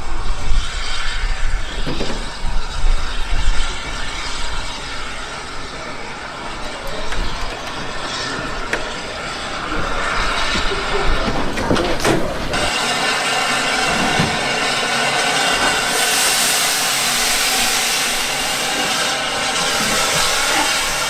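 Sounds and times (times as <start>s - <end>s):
train rumbling and rattling on rails: 0.0s - 21.0s.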